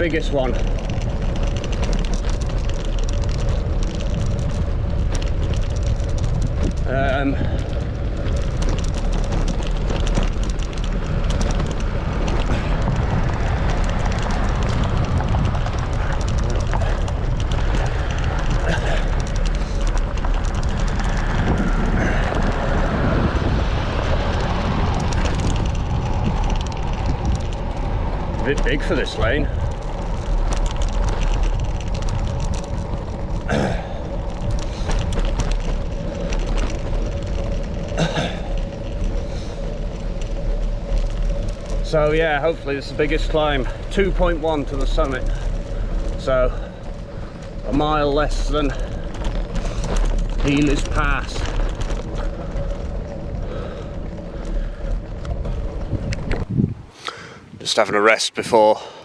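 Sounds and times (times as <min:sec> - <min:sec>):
large vehicle engine hum: 0:00.0 - 0:58.1
wind buffeting microphone: 0:00.0 - 0:58.8.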